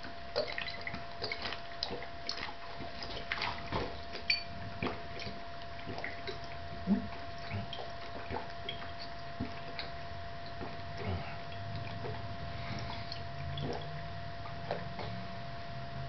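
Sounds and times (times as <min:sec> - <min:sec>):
faint steady whine: 0:00.0 - 0:16.0
person swallowing liquid: 0:00.4 - 0:15.2.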